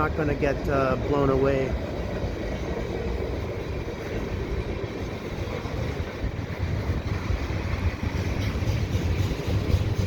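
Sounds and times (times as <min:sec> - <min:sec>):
freight train rumbling: 0:00.0 - 0:10.0
wind buffeting microphone: 0:00.0 - 0:10.0.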